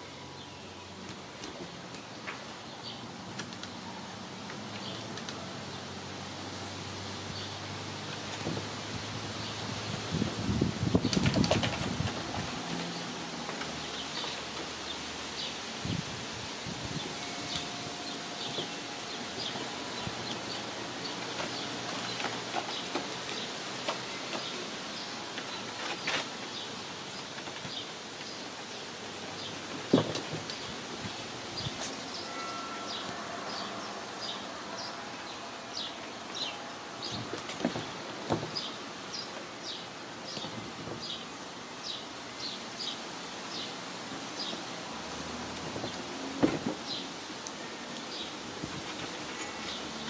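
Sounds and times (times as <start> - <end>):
steady hiss: 0.0 - 50.0.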